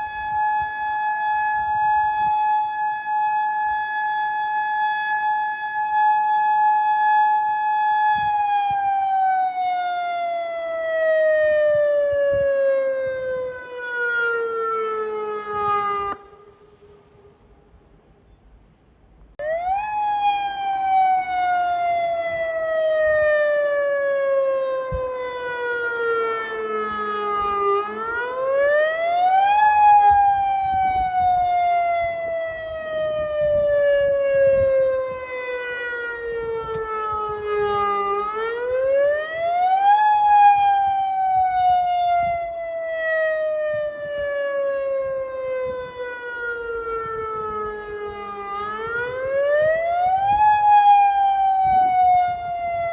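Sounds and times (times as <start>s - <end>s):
warning siren wailing: 0.0s - 17.7s, 19.4s - 52.9s.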